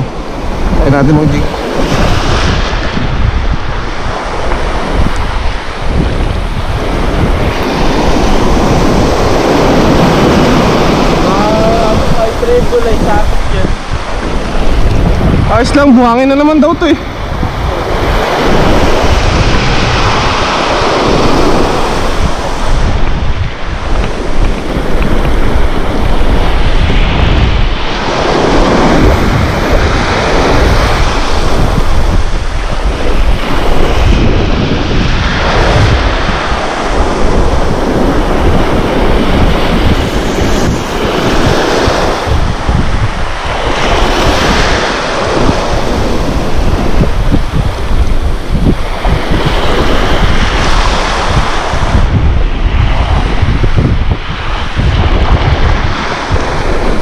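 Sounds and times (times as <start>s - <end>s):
small waves washing up a shore: 0.0s - 57.0s
wind rumbling on microphone: 0.0s - 57.0s.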